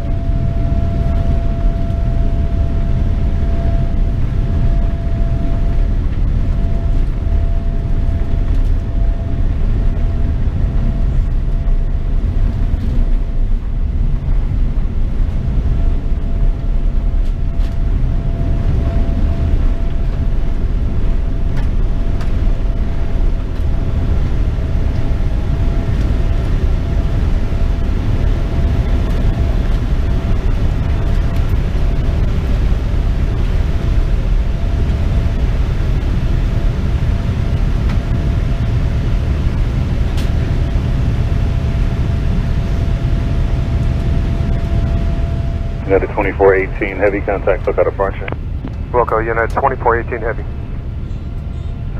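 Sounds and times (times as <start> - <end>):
faint steady hum: 0.0 - 51.9
jet engines rumbling: 0.0 - 51.9.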